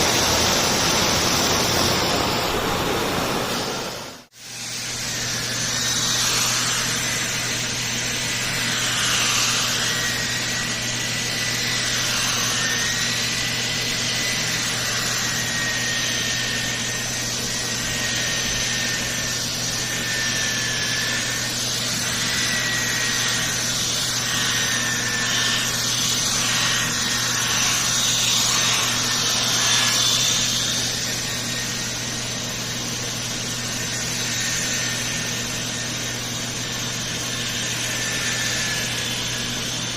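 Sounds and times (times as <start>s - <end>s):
power tool grinding a surface: 0.0s - 39.9s.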